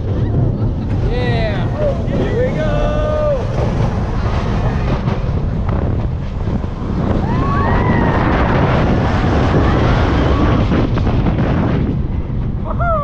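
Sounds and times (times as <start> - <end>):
roller coaster train rumble: 0.0 - 13.0
wind buffeting microphone: 0.0 - 13.0.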